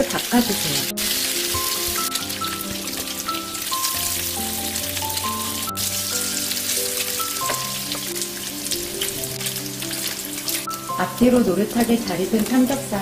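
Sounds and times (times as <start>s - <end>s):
pork sizzling in a grill pan: 0.0s - 13.0s
soft melody of held notes: 0.8s - 13.0s.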